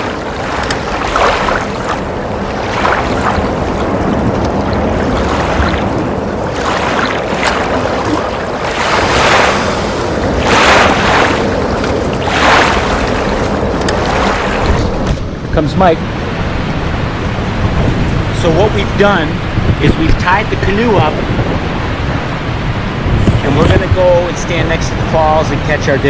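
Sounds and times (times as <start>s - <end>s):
rushing choppy water: 0.0s - 26.0s
wind buffeting microphone: 0.0s - 26.0s.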